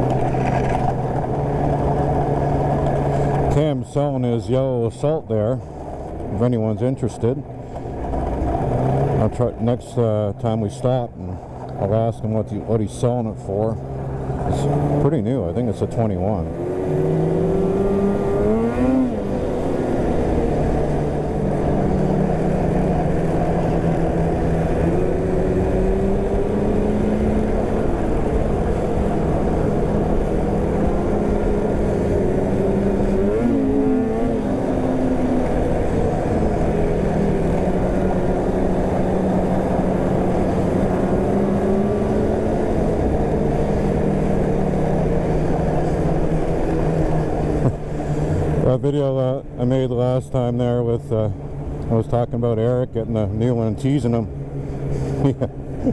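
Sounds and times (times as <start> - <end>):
steady rushing noise: 0.0 - 52.0
snowmobile engine running: 0.0 - 55.9.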